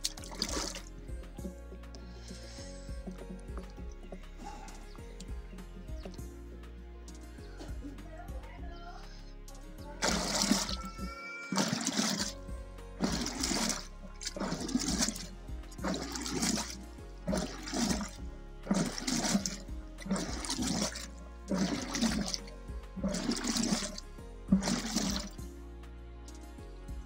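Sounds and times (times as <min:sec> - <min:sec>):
churning stick sloshing liquid: 0:00.0 - 0:06.2, 0:10.0 - 0:25.4.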